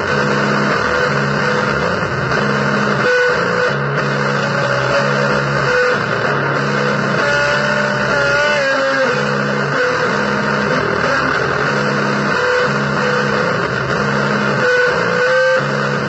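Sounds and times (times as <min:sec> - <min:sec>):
distorted blues noise music: 0:00.0 - 0:16.0.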